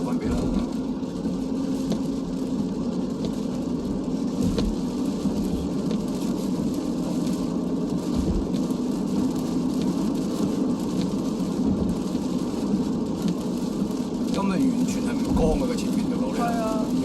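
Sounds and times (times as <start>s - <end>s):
car road and engine noise: 0.0s - 17.0s
rain ticking on car: 0.0s - 17.0s.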